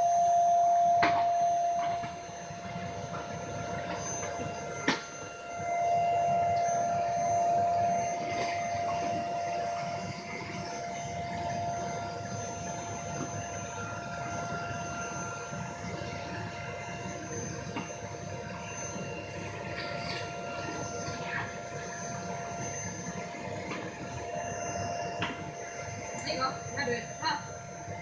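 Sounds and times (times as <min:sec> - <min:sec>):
vacuum cleaner motor whine: 0:00.0 - 0:28.0.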